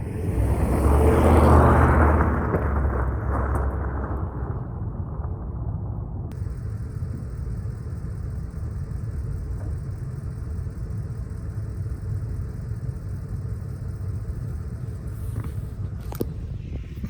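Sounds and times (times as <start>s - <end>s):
truck driving through snow: 0.0s - 17.0s.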